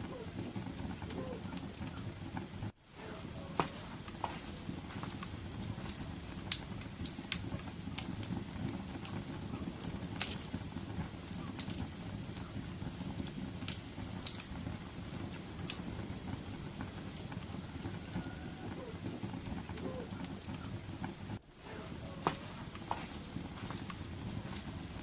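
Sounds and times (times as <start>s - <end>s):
low rumble of fire: 0.0s - 25.0s
wood fire crackling and popping: 0.0s - 25.0s.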